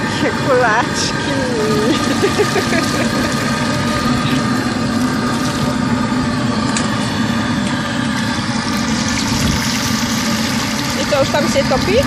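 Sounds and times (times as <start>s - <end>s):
gas furnace roaring with low hum: 0.0s - 12.0s.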